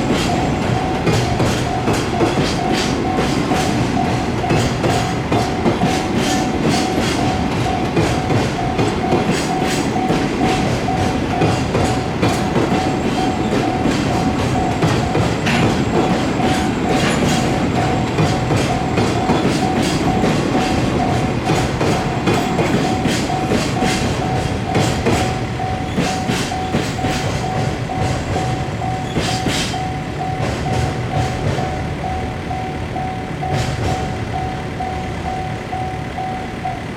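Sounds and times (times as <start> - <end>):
train wheels clacking over rail joints: 0.0 - 35.4
level crossing bell ringing: 0.0 - 36.9.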